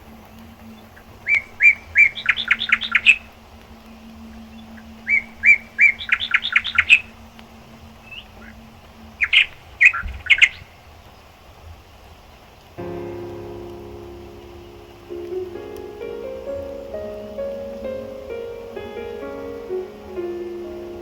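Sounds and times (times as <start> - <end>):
songbird singing: 0.0 - 11.4, 12.8 - 21.0.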